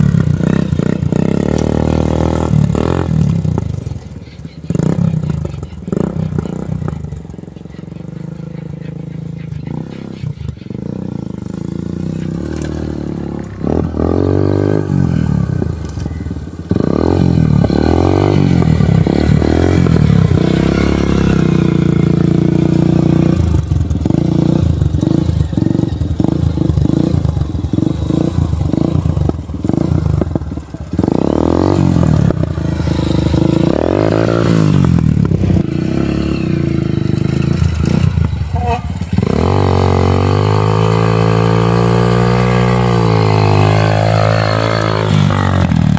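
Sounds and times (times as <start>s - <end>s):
dirt bike engine revving: 0.0s - 4.1s, 4.7s - 45.9s.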